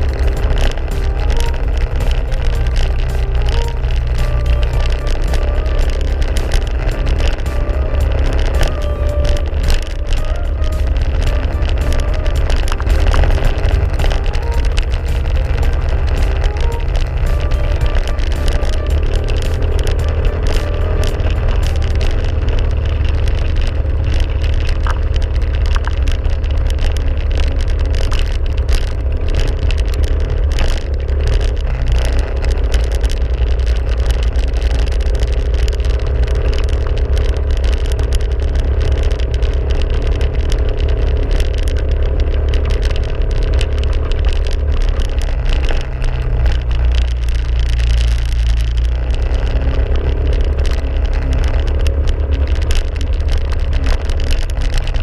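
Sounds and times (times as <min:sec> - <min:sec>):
engine running with deep rumble: 0:00.0 - 0:55.0.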